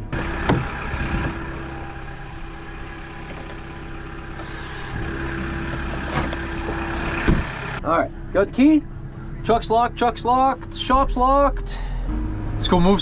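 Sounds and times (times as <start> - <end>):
diesel engine idling: 0.0 - 10.5.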